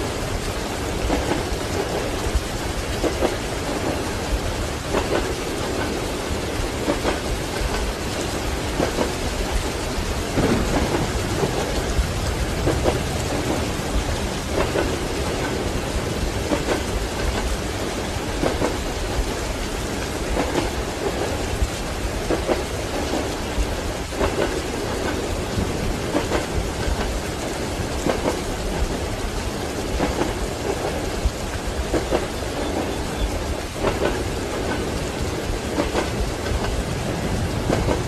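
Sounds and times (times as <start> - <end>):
low rolling thunder: 0.0 - 38.0
steady rain: 0.0 - 38.0.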